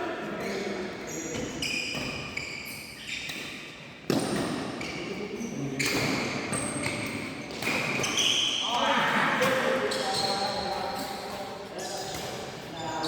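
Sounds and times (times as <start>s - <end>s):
shoes squeaking on court floor: 0.3s - 8.7s, 9.4s - 13.0s.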